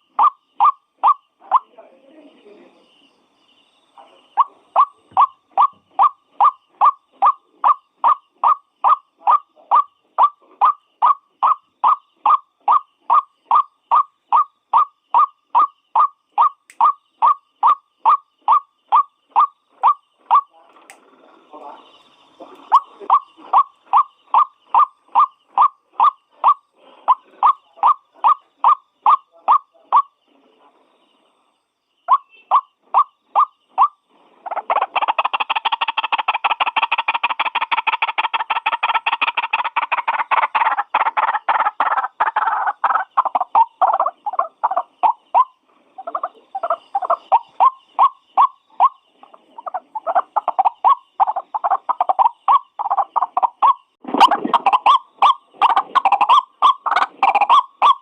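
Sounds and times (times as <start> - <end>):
waterhen calling: 0.0 - 1.7, 4.4 - 20.5, 21.8 - 30.1, 32.1 - 58.0.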